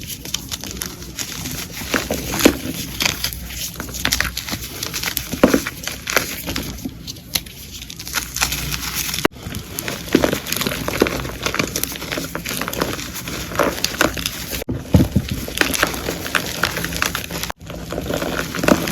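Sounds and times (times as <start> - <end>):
chalk being crushed and crumbled: 0.0 - 18.9.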